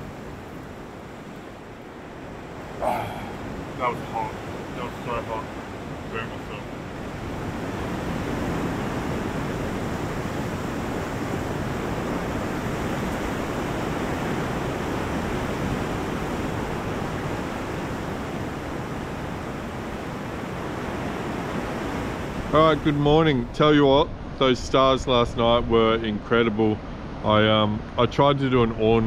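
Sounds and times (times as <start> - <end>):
ocean surf on rocky shore: 0.0 - 24.4, 26.5 - 27.8.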